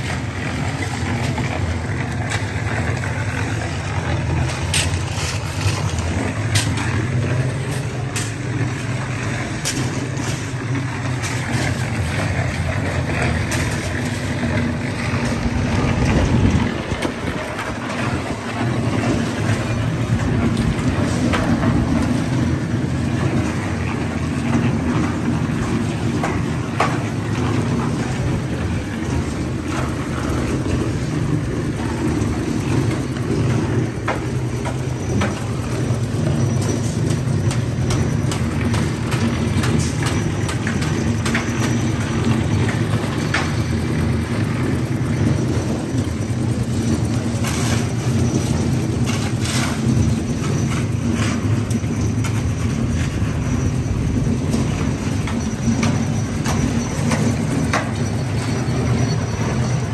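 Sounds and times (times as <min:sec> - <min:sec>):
large engine rumbling: 0:00.0 - 0:59.9.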